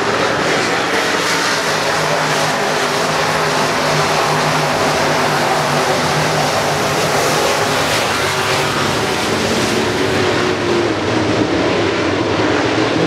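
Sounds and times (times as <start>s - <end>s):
race car engines at speed: 0.0s - 13.0s.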